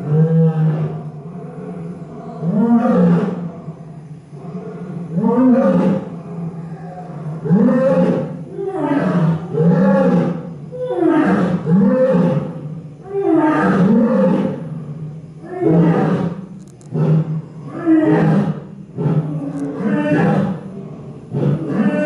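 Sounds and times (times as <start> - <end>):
lioness roaring: 0.0 - 3.5, 4.4 - 14.7, 15.4 - 22.0.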